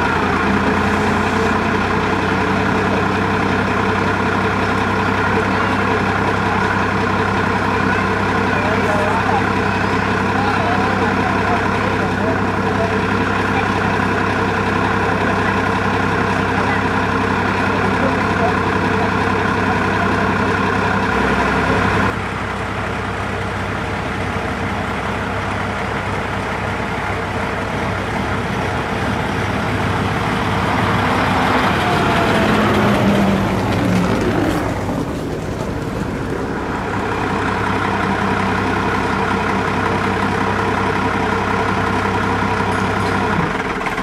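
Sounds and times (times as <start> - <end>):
bus driving past: 0.0 - 44.0
diesel bus engine idling: 0.0 - 44.0.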